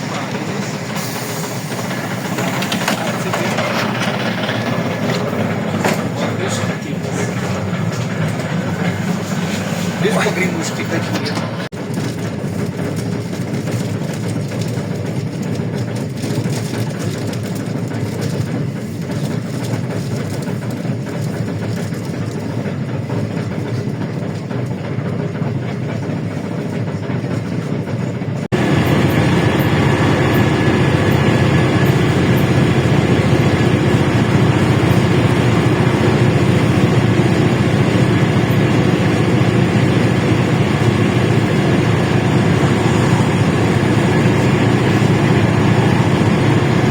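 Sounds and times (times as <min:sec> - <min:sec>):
bus engine running: 0:00.0 - 0:46.9
road and body rattle: 0:00.0 - 0:46.9.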